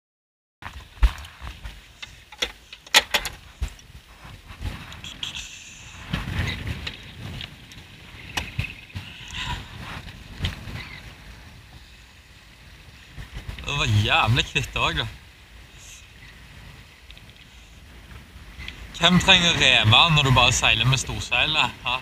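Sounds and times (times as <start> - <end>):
wind and water rushing along hull: 0.7 - 22.0.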